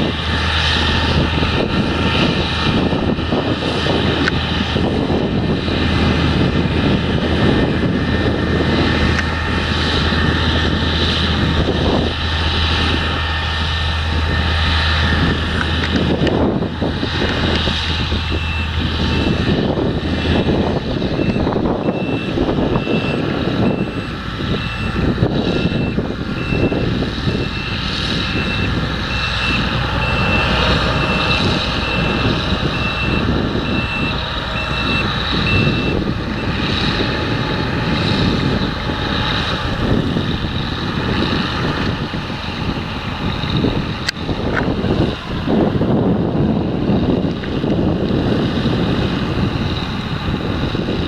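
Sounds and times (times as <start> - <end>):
heavy machinery running: 0.0 - 51.0
reversing alarm beeping: 0.2 - 42.0.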